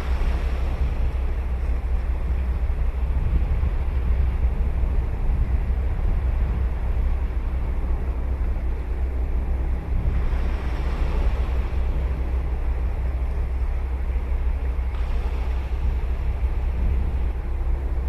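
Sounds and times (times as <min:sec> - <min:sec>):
surf washing on sandy beach: 0:00.0 - 0:08.5, 0:09.7 - 0:13.8, 0:14.8 - 0:18.0
wind rumble on microphone: 0:00.0 - 0:18.0.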